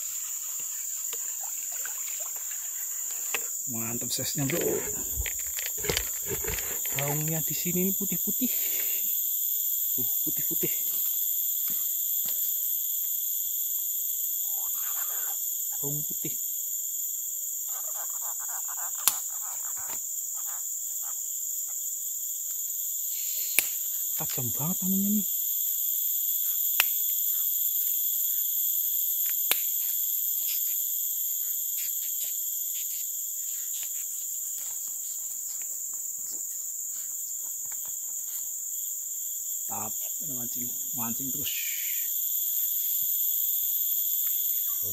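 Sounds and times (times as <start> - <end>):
insect chorus drone: 0.0 - 44.9.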